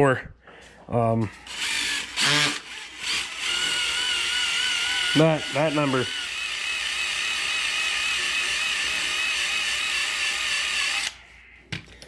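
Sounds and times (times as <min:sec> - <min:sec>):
drill wire wheel scrubbing metal: 0:01.4 - 0:11.1.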